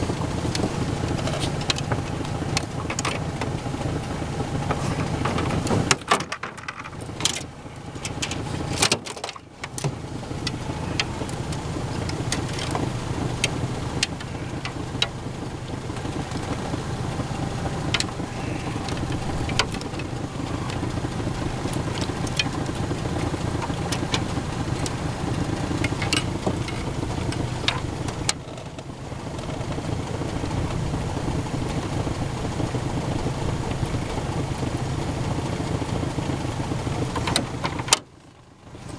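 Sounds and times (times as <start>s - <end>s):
motor idling: 0.0s - 38.9s.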